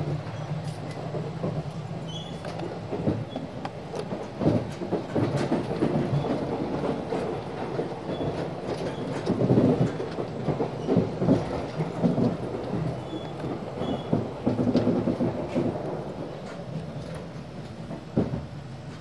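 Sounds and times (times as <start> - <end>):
train rumbling and rattling: 0.0 - 19.0.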